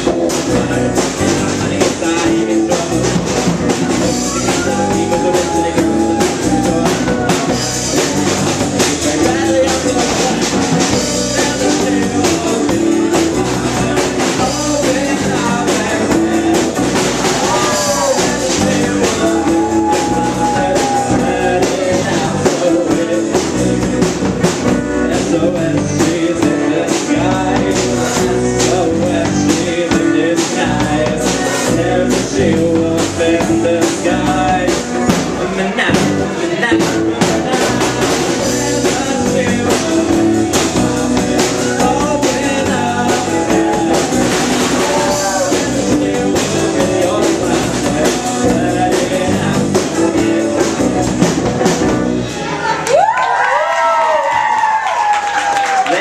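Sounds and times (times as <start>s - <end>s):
drum kit with cymbals: 0.0s - 52.5s
bass guitar: 0.0s - 56.0s.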